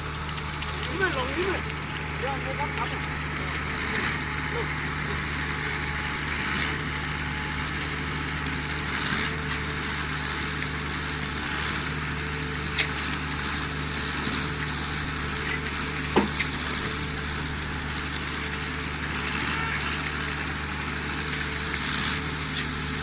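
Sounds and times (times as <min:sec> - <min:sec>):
concrete pump engine hum: 0:00.0 - 0:23.0.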